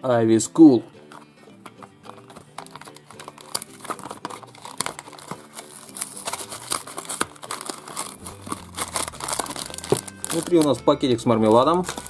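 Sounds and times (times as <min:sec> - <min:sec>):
packaging crinkling and tearing: 0:02.0 - 0:12.0.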